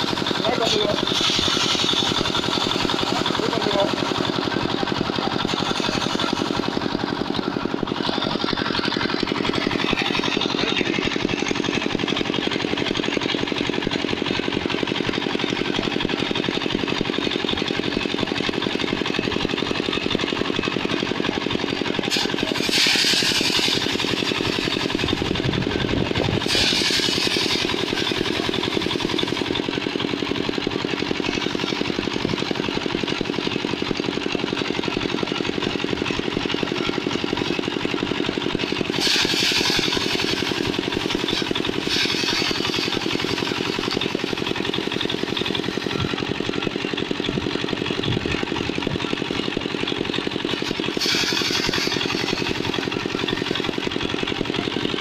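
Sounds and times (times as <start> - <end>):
thresher drum beating grain: 0.0 - 55.0
thresher engine pulsing: 0.0 - 55.0.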